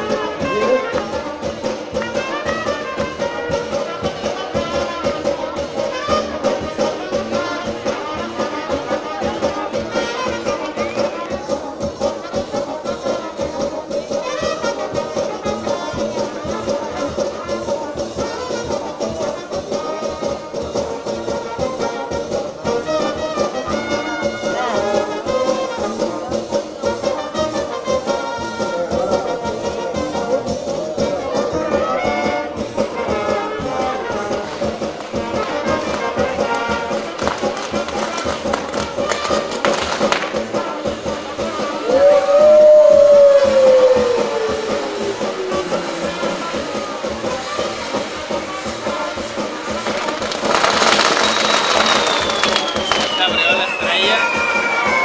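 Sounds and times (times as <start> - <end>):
brass music: 0.0 - 55.0.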